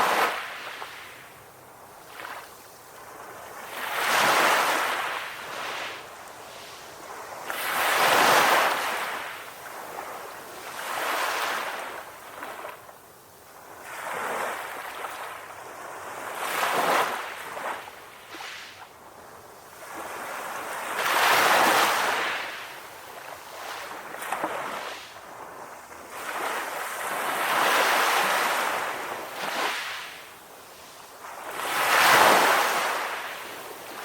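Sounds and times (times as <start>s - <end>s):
sea waves breaking on a beach: 0.0s - 34.0s.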